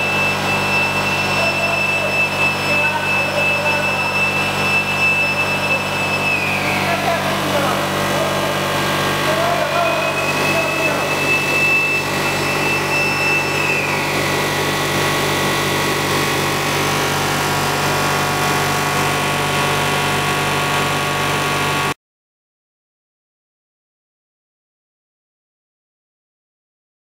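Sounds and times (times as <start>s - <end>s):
machine motors humming and whirring: 0.0s - 21.9s
high machine whine: 0.0s - 22.0s.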